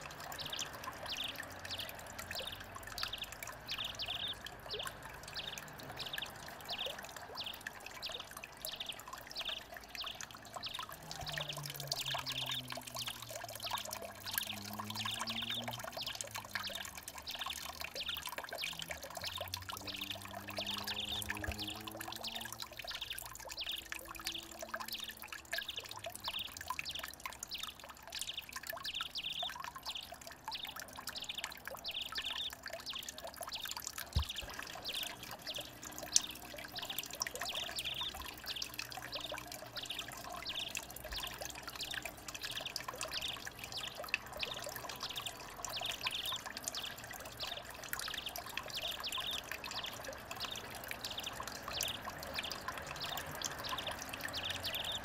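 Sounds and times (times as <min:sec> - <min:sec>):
water trickling over stone: 0:00.0 - 0:55.0.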